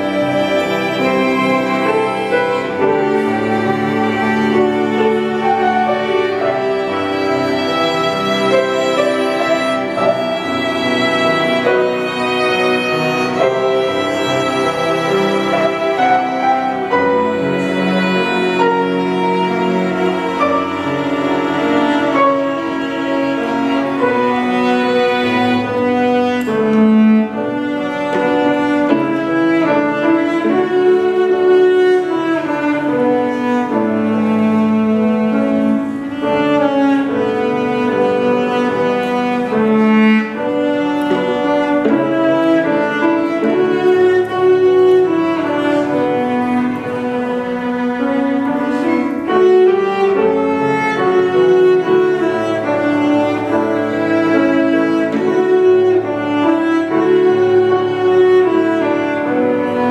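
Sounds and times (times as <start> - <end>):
string ensemble with piano: 0.0 - 59.9.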